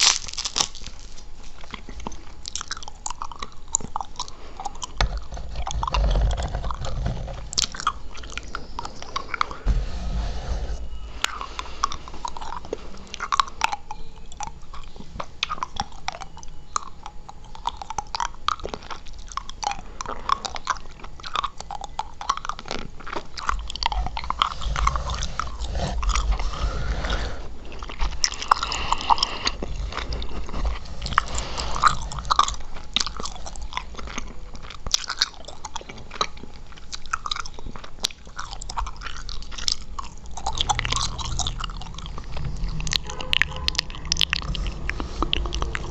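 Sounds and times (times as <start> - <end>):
chewing gum mouth sounds: 0.0 - 9.6, 11.1 - 45.9.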